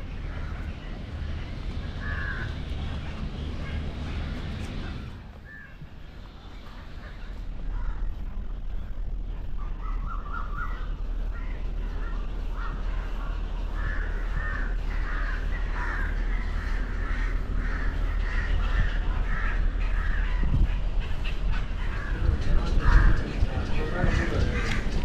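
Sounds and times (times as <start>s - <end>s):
low rumble: 0.0s - 25.0s
crows cawing: 0.2s - 1.0s, 1.8s - 2.8s, 3.6s - 5.8s, 7.0s - 8.4s, 9.6s - 25.0s.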